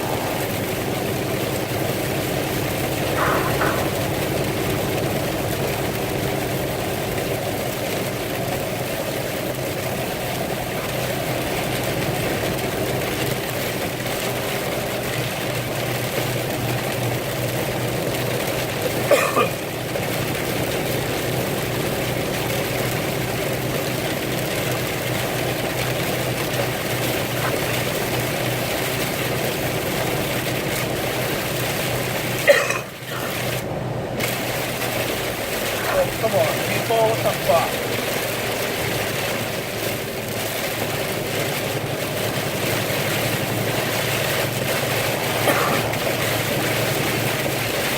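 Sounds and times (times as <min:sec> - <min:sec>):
constant hiss: 0:00.0 - 0:47.9
vehicle engine hum: 0:00.0 - 0:47.9.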